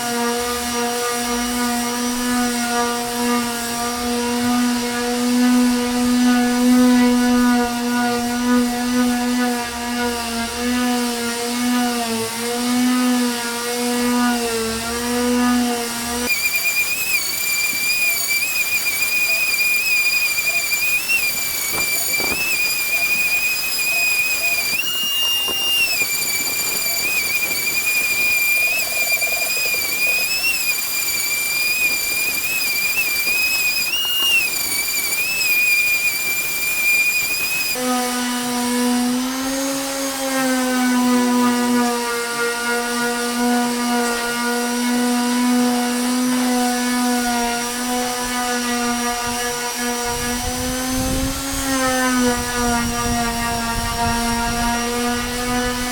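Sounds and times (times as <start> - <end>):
power sander motor: 0.0 - 55.9.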